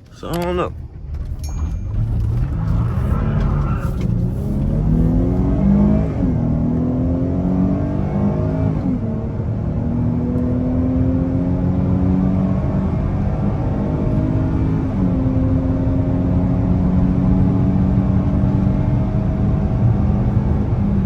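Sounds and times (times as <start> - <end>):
road and wind rush: 0.0 - 21.0
car engine accelerating hard: 0.2 - 21.0.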